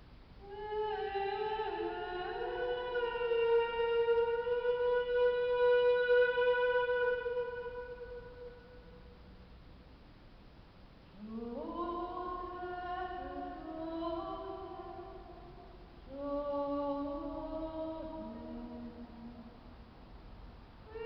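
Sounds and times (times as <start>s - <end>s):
woman singing soprano: 0.4s - 9.0s, 11.2s - 19.7s.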